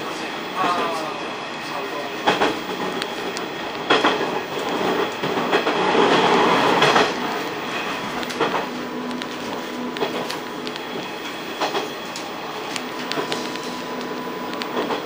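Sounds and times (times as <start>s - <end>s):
train running noise: 0.0s - 15.0s
train wheels clacking on rails: 0.0s - 15.0s.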